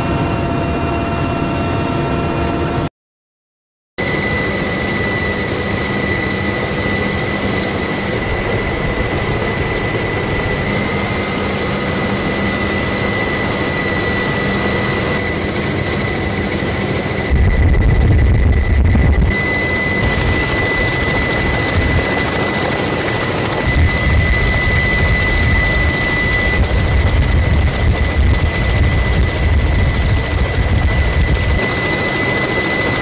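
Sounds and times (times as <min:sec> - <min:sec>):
helicopter rotor noise: 0:00.0 - 0:02.9, 0:04.0 - 0:33.0
helicopter turbine whine: 0:00.0 - 0:02.9, 0:04.0 - 0:33.0.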